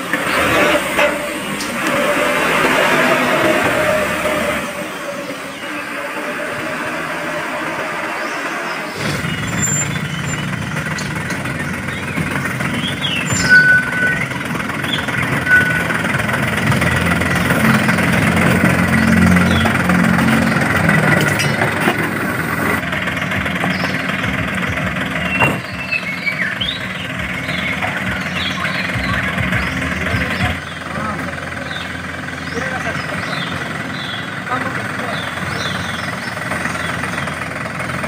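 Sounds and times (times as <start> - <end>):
toy truck engine hum: 0.0 - 38.0.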